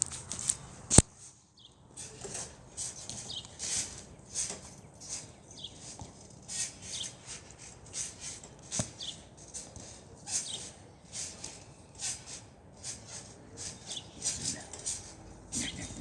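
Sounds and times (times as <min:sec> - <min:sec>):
trampoline springs squeaking: 0:00.0 - 0:16.0.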